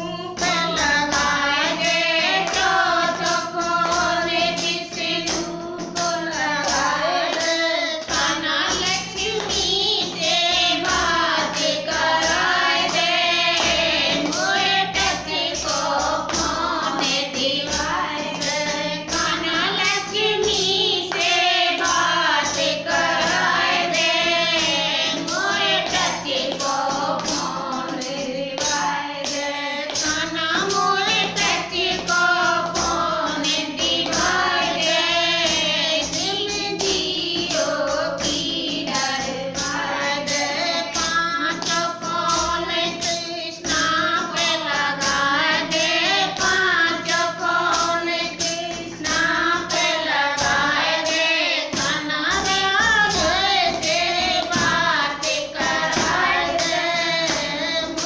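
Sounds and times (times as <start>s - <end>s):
tambourine rhythm: 0.0s - 58.0s
women singing devotional song: 0.0s - 58.0s.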